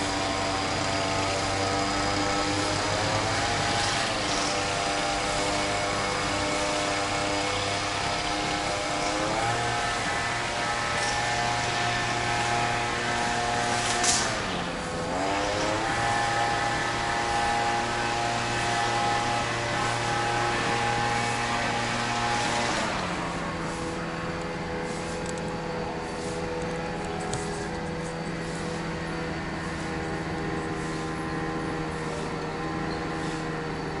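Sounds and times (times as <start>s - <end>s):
machine droning over hiss: 0.0s - 34.0s
motor running with pitched tone: 0.0s - 34.0s.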